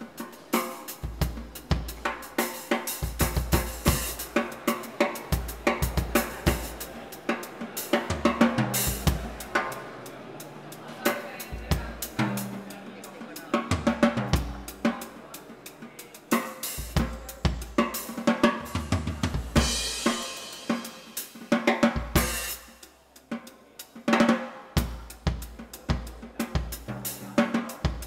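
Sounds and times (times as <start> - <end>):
drum kit playing: 0.0 - 28.0.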